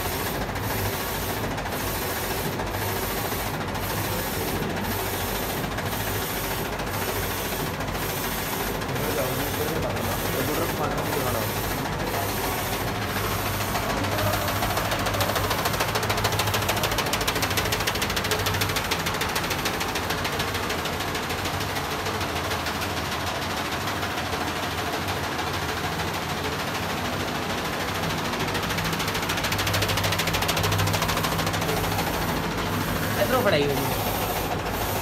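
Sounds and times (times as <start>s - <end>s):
machine hum with rattling whir: 0.0s - 35.0s.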